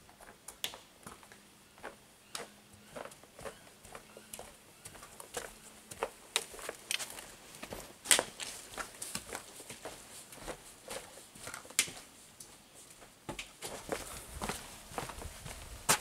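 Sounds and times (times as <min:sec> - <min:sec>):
footsteps on a trail: 0:00.1 - 0:16.0.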